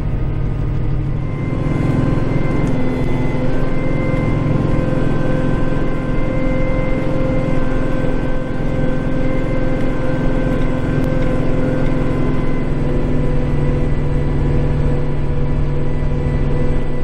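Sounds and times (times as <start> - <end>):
tractor diesel engine drone: 0.0 - 17.0.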